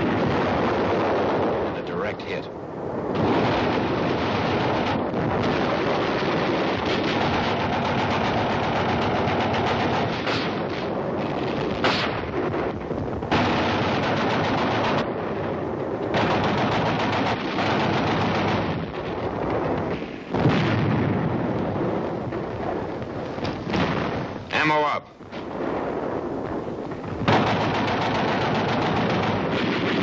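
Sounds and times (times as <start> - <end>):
machine gun firing in bursts: 0.0 - 2.4, 3.1 - 30.0.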